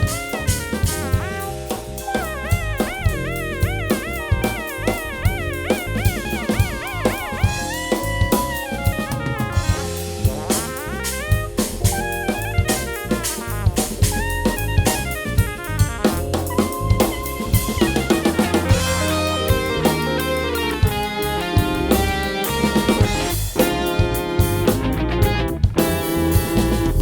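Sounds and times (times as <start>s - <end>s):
rock fusion band playing: 0.0s - 27.0s
snare and bass drum hits: 0.0s - 27.0s.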